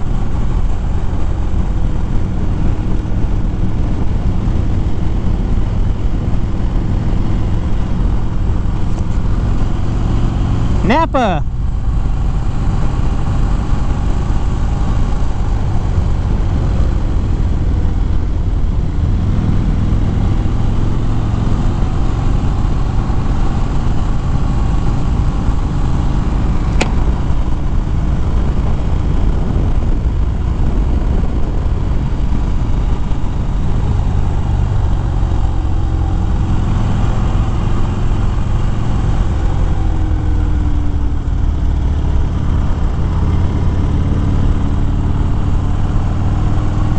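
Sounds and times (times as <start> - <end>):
motorcycle engine running: 0.0 - 46.9
wind and road noise: 0.0 - 46.9.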